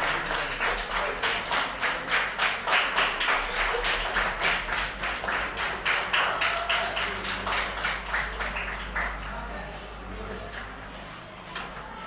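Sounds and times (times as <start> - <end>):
people clapping: 0.0 - 11.0.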